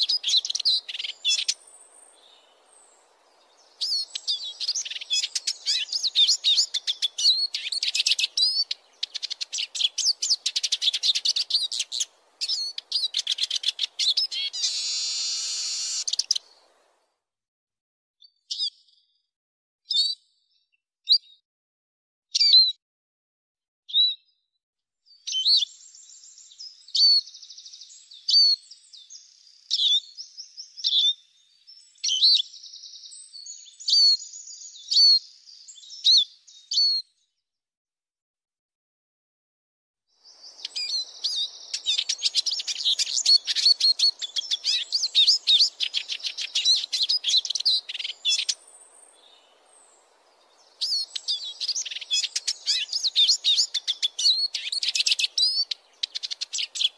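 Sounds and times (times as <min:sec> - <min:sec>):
bird calls and twittering song: 0:00.0 - 0:17.2, 0:18.2 - 0:21.4, 0:22.3 - 0:22.8, 0:23.9 - 0:37.4, 0:40.1 - 0:56.9.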